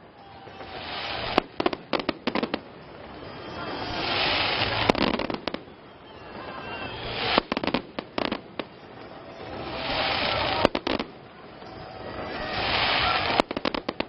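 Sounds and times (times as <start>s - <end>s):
firework hiss: 0.0s - 14.0s
firework shells cracking: 0.4s - 14.0s.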